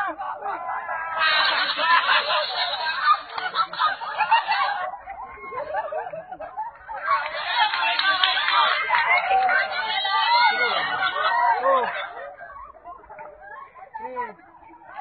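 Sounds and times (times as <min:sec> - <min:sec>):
crowd laughing: 0:00.0 - 0:15.0
voices: 0:00.0 - 0:15.0.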